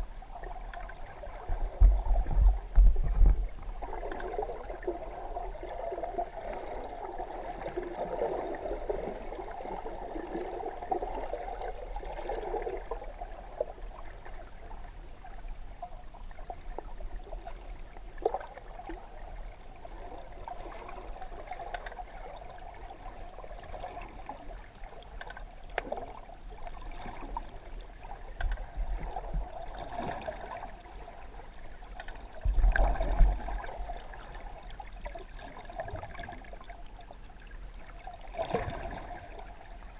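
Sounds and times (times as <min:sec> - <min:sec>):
water sloshing underwater: 0:00.0 - 0:39.9.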